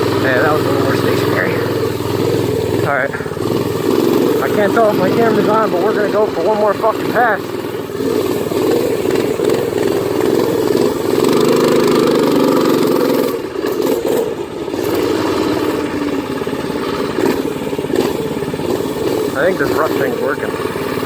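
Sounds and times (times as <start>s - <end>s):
minibike engine revving: 0.0s - 21.0s.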